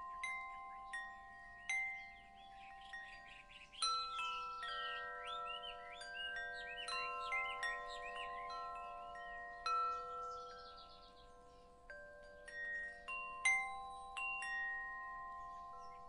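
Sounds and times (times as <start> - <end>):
small birds chirping: 0.0 - 16.0
wind chimes ringing: 0.0 - 16.0.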